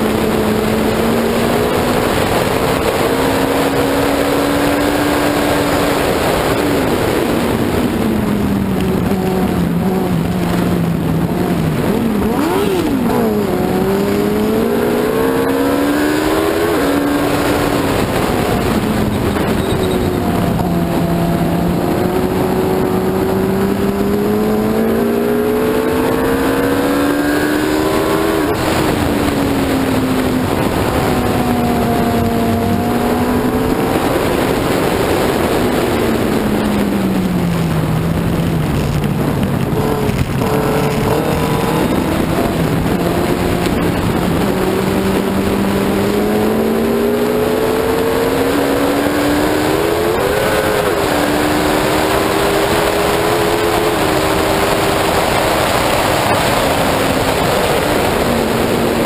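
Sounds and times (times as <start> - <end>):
motorcycle engine racing: 0.0 - 59.0
wind rushing: 0.0 - 59.0.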